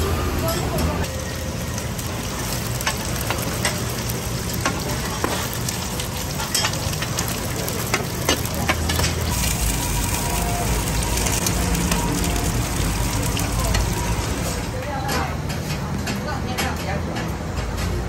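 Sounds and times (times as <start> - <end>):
dumplings sizzling in oil: 1.0 - 15.6.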